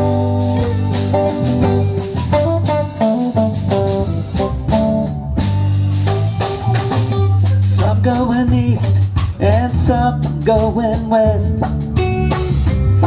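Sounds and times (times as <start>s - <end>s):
bass guitar: 0.0s - 13.0s
drum kit: 0.0s - 13.0s
electric guitar playing: 0.0s - 13.0s.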